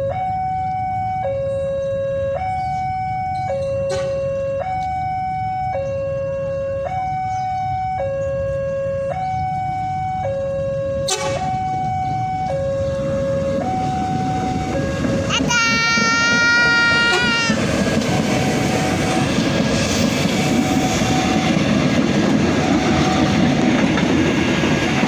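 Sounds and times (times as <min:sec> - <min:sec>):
two-tone electronic warning siren: 0:00.0 - 0:25.0.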